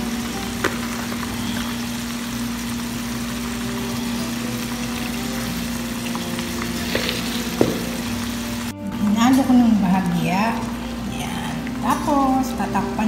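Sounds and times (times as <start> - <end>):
faint sizzle in pan: 0.0 - 13.0.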